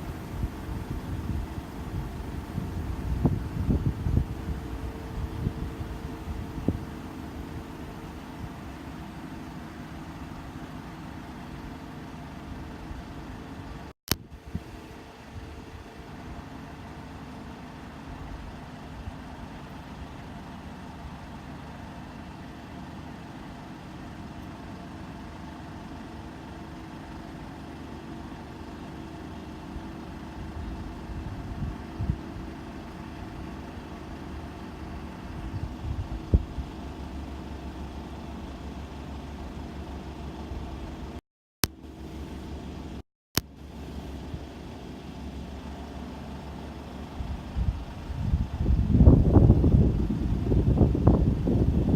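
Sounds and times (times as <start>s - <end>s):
combine harvester engine running: 0.0s - 51.9s.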